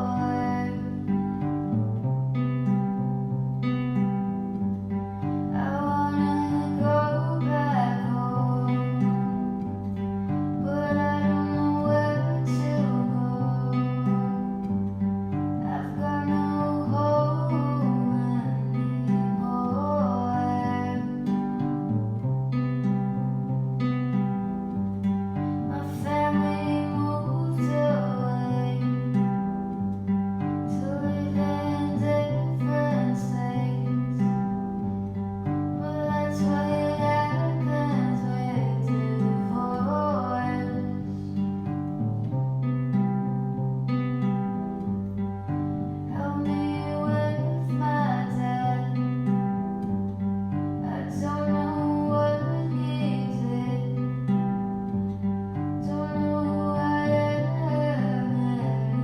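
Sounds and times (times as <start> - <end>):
guitar background music: 0.0 - 59.0.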